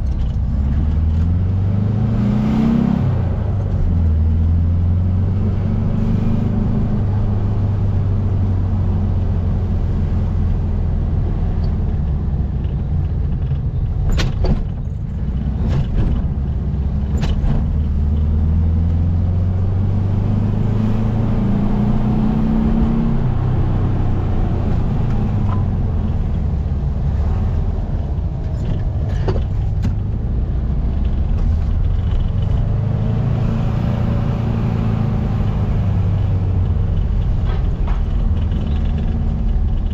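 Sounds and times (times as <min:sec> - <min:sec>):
car engine running: 0:03.1 - 0:39.9.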